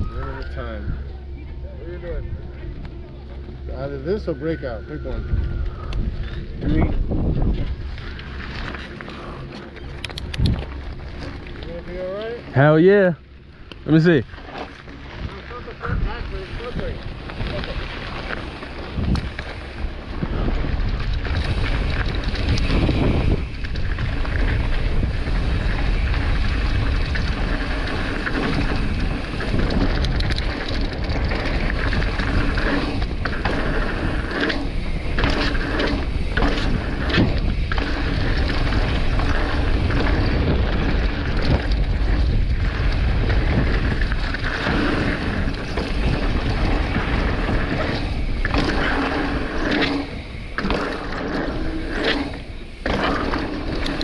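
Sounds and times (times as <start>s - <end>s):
wind buffeting microphone: 0.0s - 12.8s, 13.4s - 54.0s
bike rattling and knocking: 2.1s - 54.0s.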